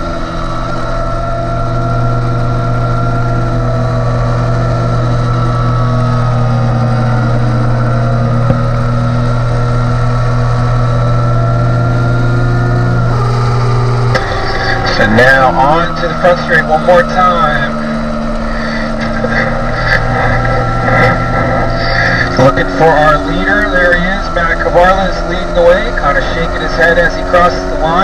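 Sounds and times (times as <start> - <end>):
motorcycle engine at high revs: 0.0 - 28.0.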